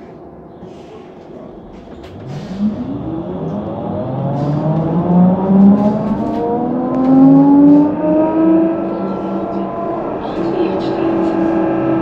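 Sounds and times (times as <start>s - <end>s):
electric traction drive whining: 1.9s - 12.0s.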